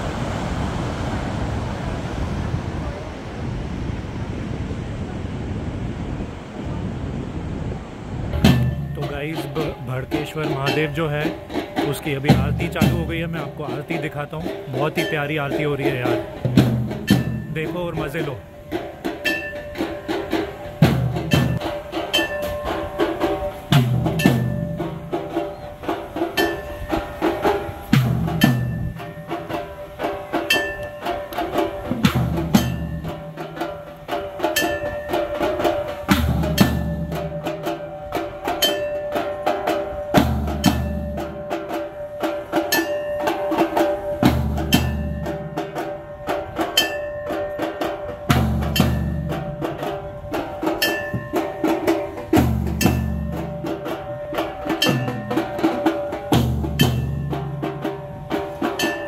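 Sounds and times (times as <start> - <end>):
deep low drum stroke: 0.0 - 59.0
drums in fast steady rhythm: 8.4 - 59.0.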